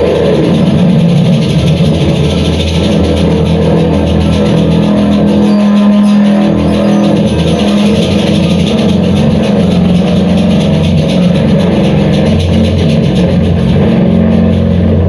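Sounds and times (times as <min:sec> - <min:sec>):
held low drones: 0:00.0 - 0:15.0
rapid high pulsing: 0:00.0 - 0:15.0.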